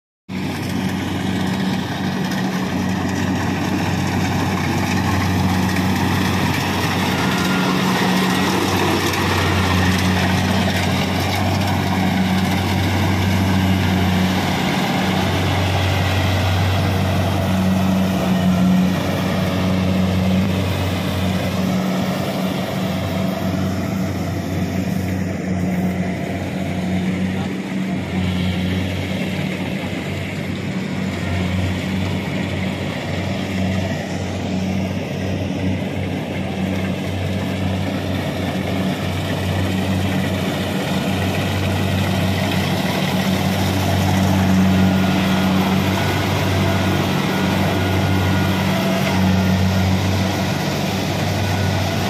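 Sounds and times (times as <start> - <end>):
combine harvester engine hum: 0.3 - 52.0.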